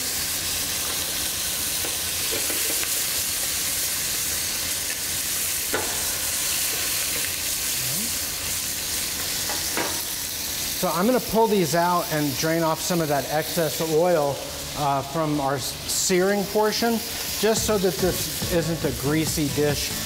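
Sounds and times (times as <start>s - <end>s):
meat sizzling in hot oil: 0.0s - 20.0s.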